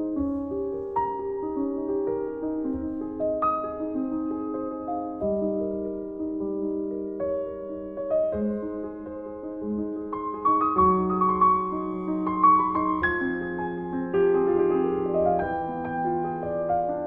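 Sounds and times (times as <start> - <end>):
grand piano playing: 0.0 - 17.0.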